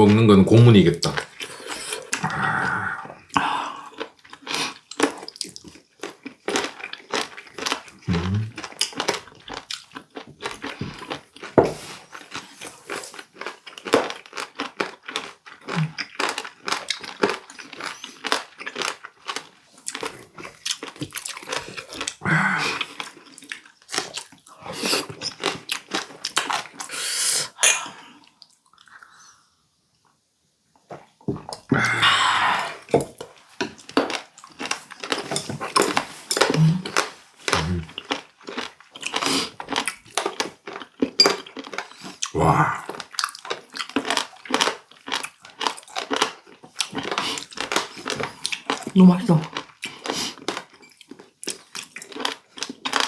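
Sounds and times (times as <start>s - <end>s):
crunchy wet chewing: 3.2s - 27.0s, 32.8s - 53.0s.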